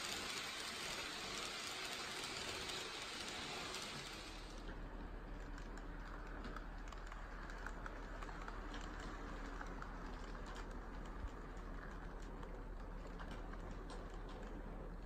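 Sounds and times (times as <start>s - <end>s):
wheels clicking over rail joints: 0.0s - 4.8s, 5.5s - 15.0s
model train running on track: 0.0s - 15.0s.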